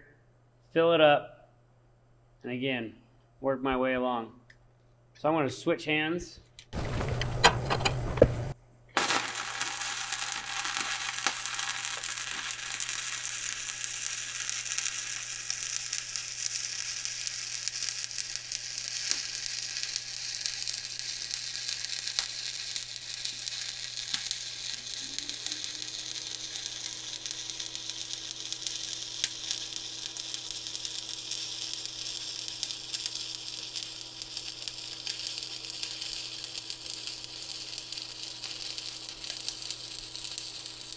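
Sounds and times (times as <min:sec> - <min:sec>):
welding arc crackling: 0:06.8 - 0:40.9.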